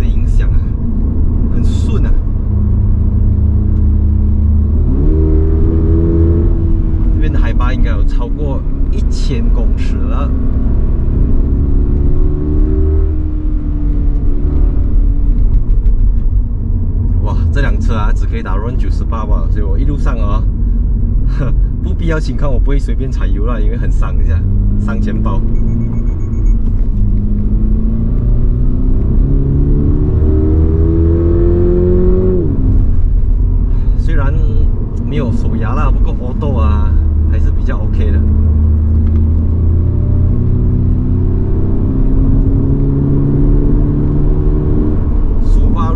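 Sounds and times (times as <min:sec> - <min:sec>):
car engine running: 0:00.0 - 0:45.9
road rumble: 0:00.0 - 0:45.9.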